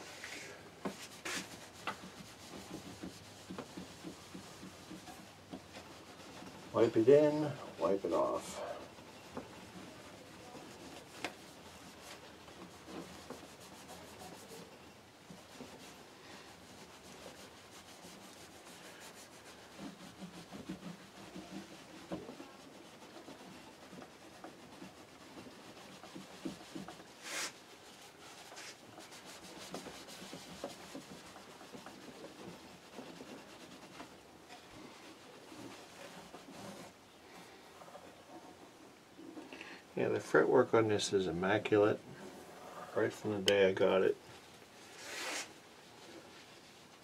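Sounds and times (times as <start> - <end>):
cloth rubbing on guitar: 0.0 - 38.6, 40.2 - 47.0.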